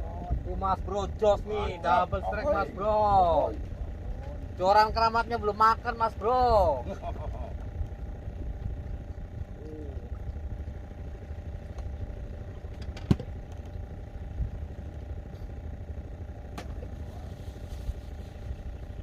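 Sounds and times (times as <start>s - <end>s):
engine drone: 0.0s - 19.0s
low rumble: 0.0s - 19.0s.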